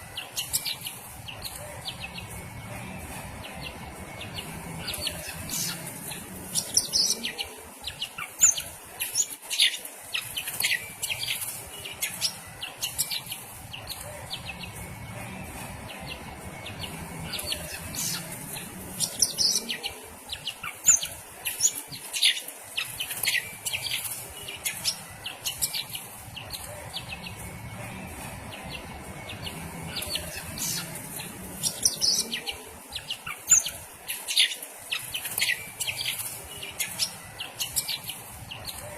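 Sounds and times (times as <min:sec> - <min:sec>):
bird chirping and trilling: 0:03.0 - 0:15.0, 0:15.8 - 0:38.9.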